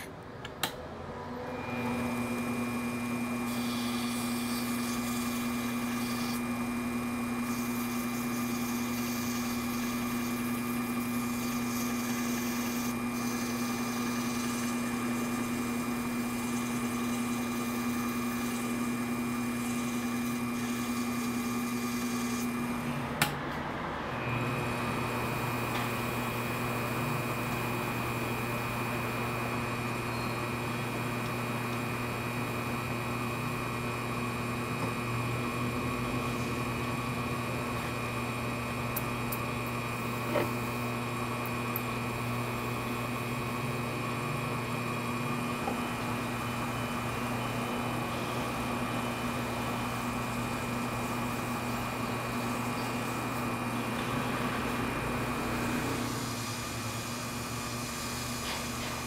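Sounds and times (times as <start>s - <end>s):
wood lathe motor humming: 1.5s - 23.2s, 24.2s - 59.0s.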